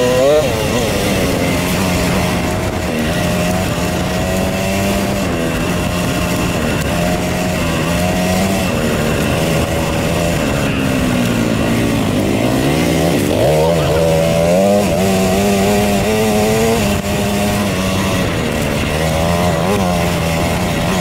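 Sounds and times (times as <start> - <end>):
two-stroke dirt bike engine revving: 0.0 - 21.0.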